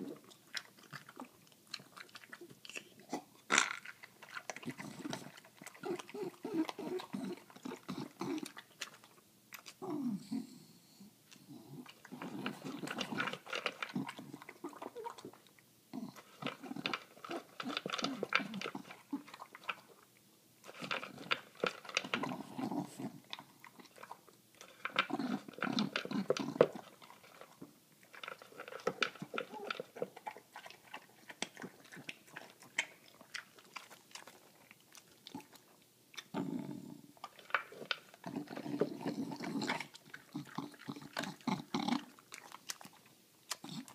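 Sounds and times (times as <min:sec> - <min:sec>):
dog crunching dry kibble: 0:00.0 - 0:09.8, 0:11.3 - 0:43.9.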